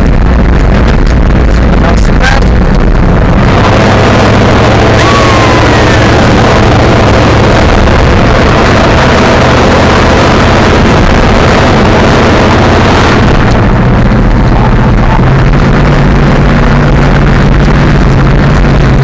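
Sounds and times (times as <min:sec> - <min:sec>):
loud truck engine running: 0:00.0 - 0:19.0.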